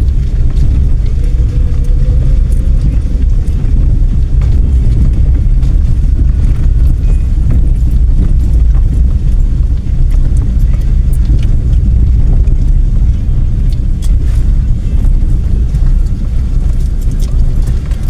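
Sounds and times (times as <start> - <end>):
car road and engine rumble: 0.0 - 18.0
faint clicks and rattles: 0.0 - 18.0.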